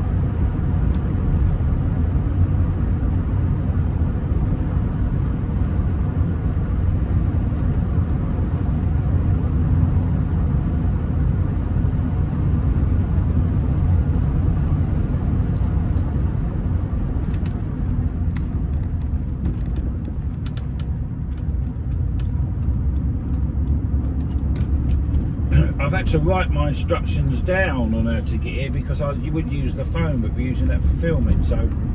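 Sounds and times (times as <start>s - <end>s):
road and engine noise in car: 0.0s - 31.9s.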